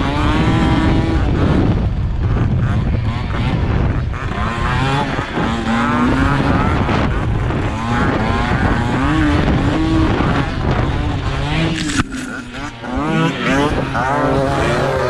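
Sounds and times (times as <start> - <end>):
scooter engines revving: 0.0 - 15.0.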